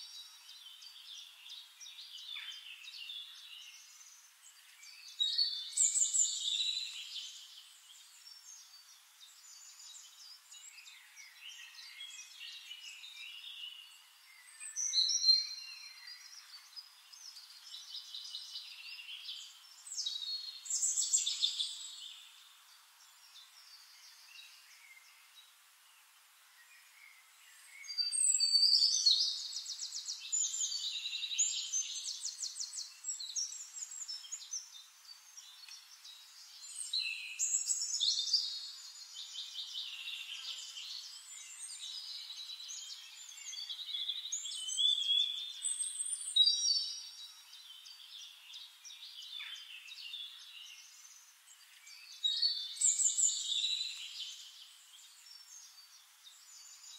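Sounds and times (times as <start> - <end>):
birds chirping and trilling: 0.0 - 56.9.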